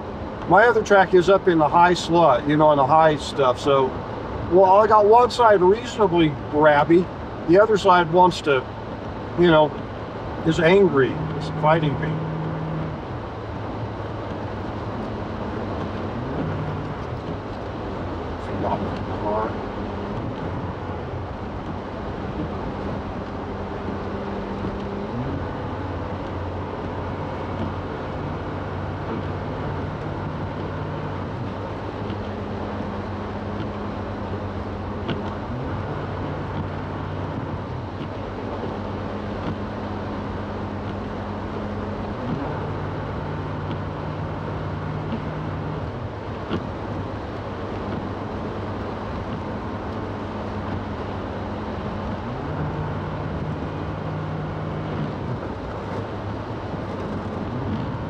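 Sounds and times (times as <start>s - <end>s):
low engine hum: 0.0s - 58.0s
tyres driving through slush: 0.0s - 58.0s.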